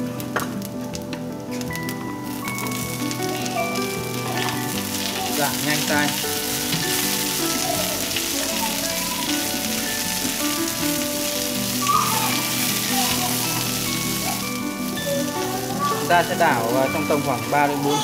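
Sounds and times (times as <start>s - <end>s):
insects sizzling in frying pan: 0.0s - 18.0s.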